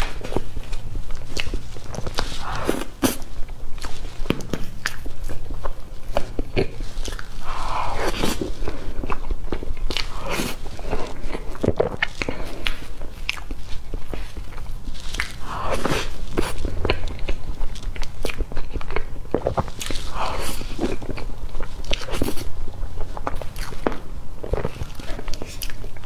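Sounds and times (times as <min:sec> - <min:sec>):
wet chewing and mouth smacks: 0:00.0 - 0:26.0.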